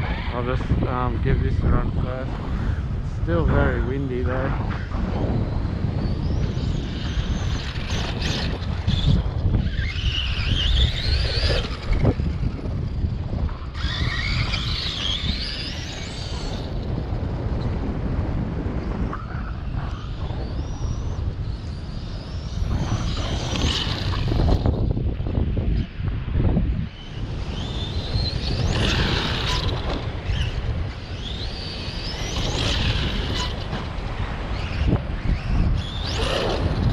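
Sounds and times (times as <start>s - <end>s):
wind buffeting microphone: 0.0s - 36.9s
rc car motor whining: 5.2s - 17.8s, 19.2s - 36.9s.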